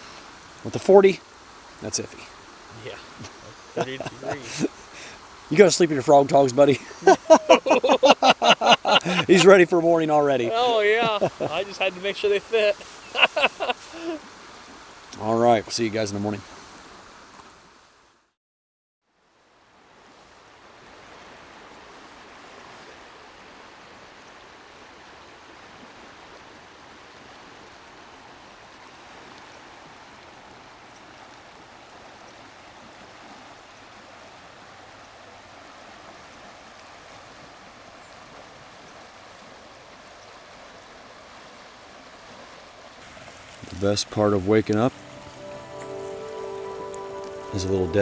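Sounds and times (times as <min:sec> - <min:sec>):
river flowing: 0:00.0 - 0:18.4, 0:19.1 - 0:48.0.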